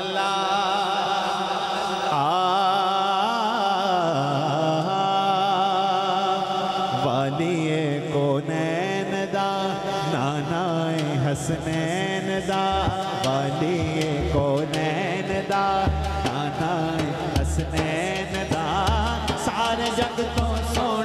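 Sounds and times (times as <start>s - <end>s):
man singing through microphone: 0.0s - 21.0s.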